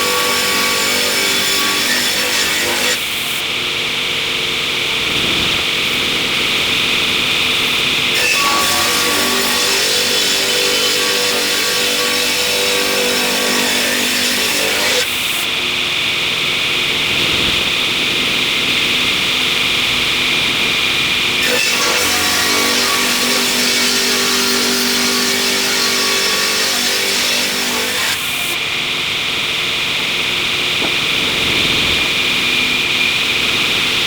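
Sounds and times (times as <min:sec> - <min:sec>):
sawmill machinery droning: 0:00.0 - 0:34.0.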